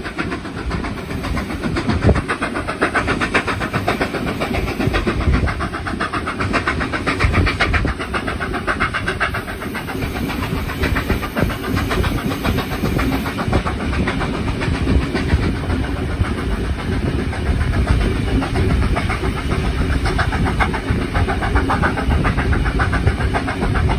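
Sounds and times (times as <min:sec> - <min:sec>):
train wheels rumbling and rattling: 0:00.0 - 0:23.9
wind rushing: 0:00.7 - 0:22.6.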